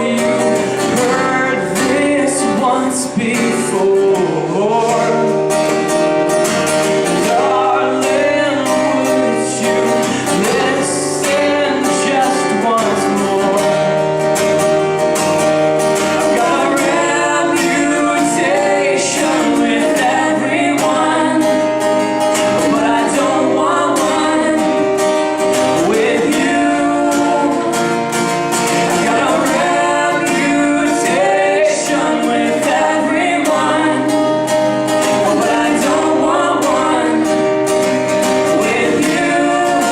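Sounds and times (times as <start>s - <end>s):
person singing: 0.0s - 5.6s, 7.0s - 13.9s, 16.1s - 39.9s
guitar: 0.0s - 39.9s.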